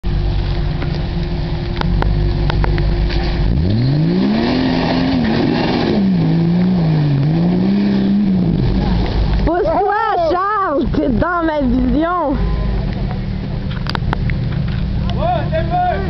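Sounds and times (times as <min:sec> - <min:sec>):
engine rumbling and revving: 0:00.0 - 0:16.0
mud and water splashing: 0:00.2 - 0:13.2.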